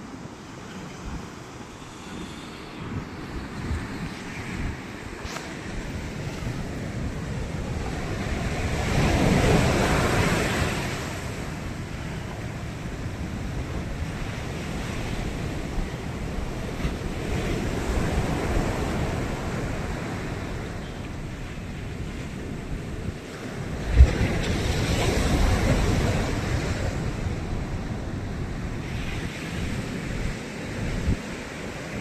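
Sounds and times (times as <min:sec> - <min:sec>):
sea waves breaking: 0:00.0 - 0:32.0.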